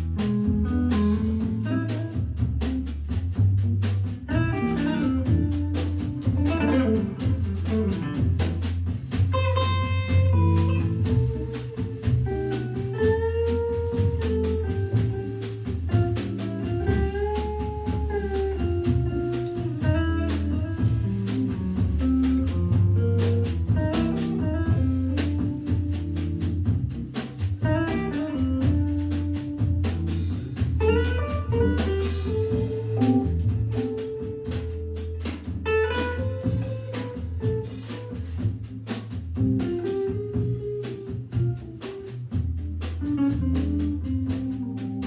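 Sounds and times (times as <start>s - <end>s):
drums and cymbals: 0.0s - 45.0s
jazz guitar melody: 0.0s - 45.0s
organ bass line: 0.0s - 45.0s.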